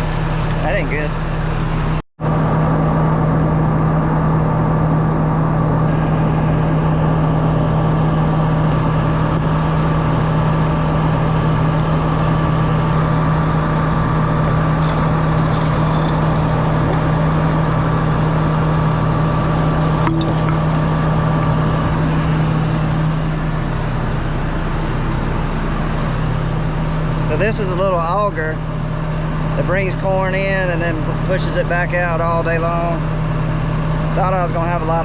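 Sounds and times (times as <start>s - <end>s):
harvester engine droning: 0.0s - 35.0s.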